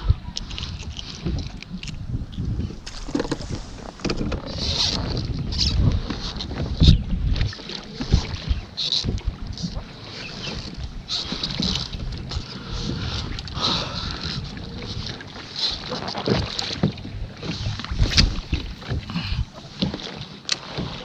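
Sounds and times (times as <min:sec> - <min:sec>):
water splashing around a kayak: 0:00.0 - 0:21.0
wind rumbling on microphone: 0:00.0 - 0:21.0.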